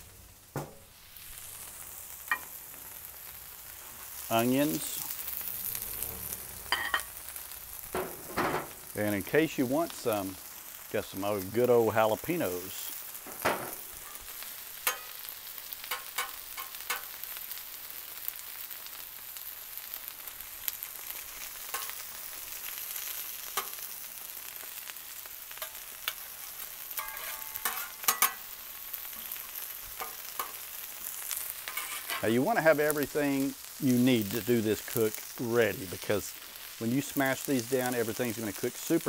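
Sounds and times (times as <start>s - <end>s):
meat sizzling on griddle: 0.0s - 39.0s.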